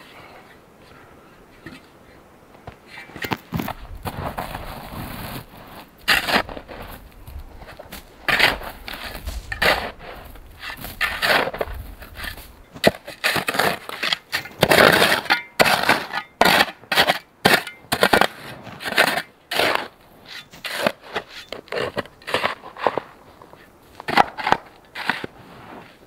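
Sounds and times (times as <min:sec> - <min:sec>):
shovel scraping through snow: 0:03.1 - 0:26.0.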